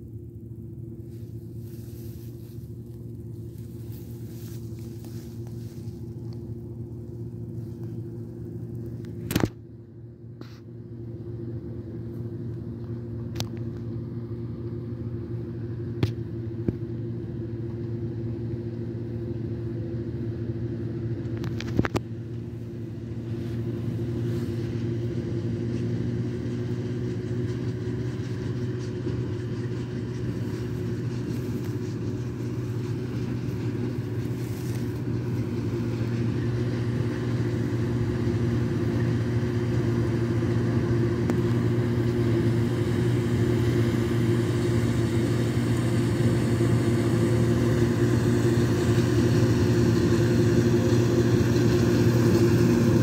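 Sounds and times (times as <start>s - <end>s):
harvester engine drone: 0.0s - 53.0s.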